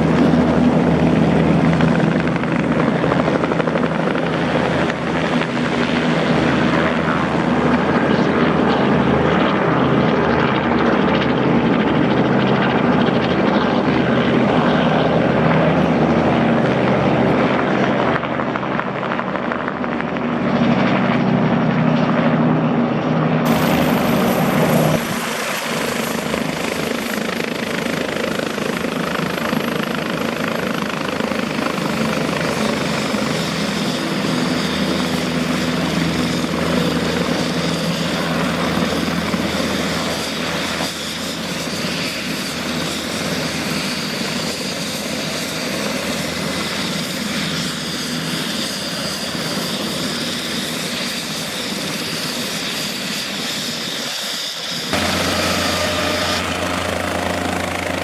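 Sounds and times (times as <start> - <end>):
helicopter turbine and rotor: 0.0 - 58.0.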